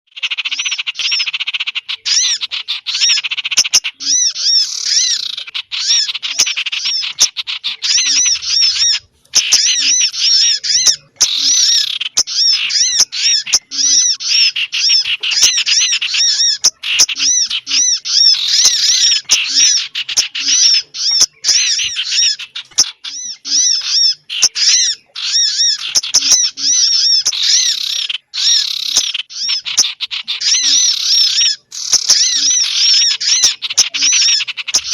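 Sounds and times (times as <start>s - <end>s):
recorded bird chirps: 0.1s - 34.9s.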